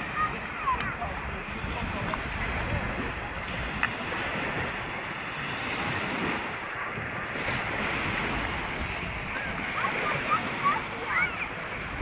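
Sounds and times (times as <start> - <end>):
small waves washing on shore: 0.0 - 12.0
wind buffeting microphone: 0.0 - 12.0.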